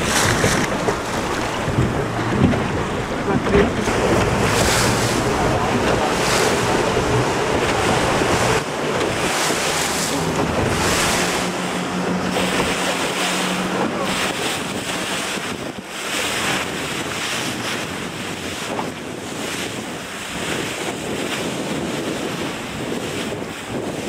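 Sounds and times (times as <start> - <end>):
boat motor running: 0.0 - 24.0
water washing around hull: 0.0 - 24.0
wind buffeting microphone: 0.0 - 24.0.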